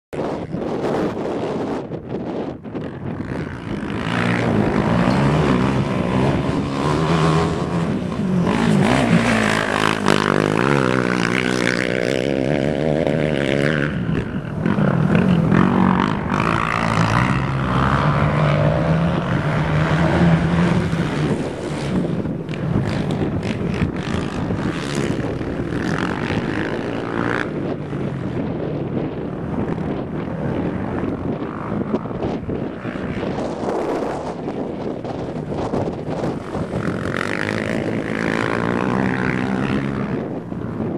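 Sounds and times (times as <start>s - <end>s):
quad engines revving: 0.2s - 40.9s.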